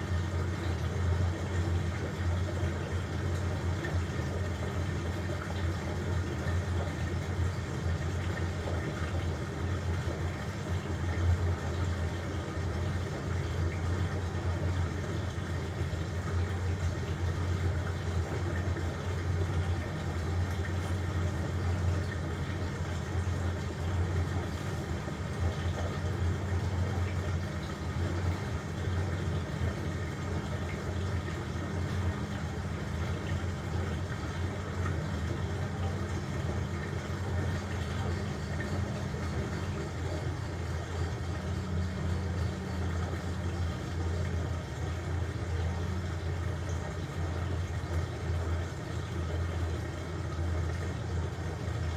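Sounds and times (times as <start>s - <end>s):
washing machine running: 0.0s - 51.9s.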